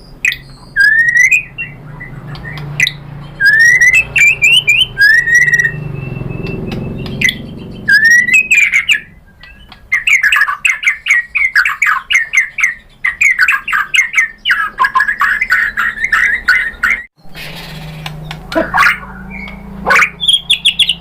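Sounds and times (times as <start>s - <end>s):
bird singing fast sweeping notes: 0.0s - 21.0s
whistled bird note: 0.0s - 21.0s.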